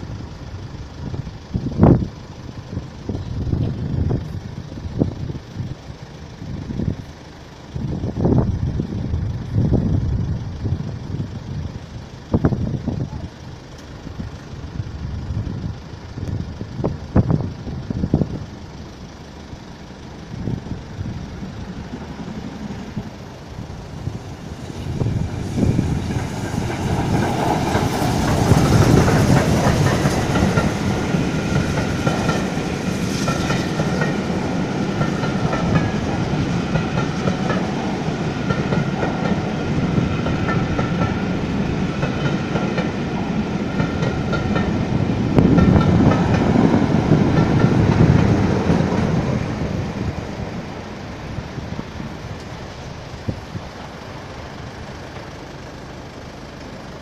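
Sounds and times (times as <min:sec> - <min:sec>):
diesel locomotive passing: 0:00.0 - 0:57.0
train wheels rumbling and clattering: 0:00.0 - 0:57.0.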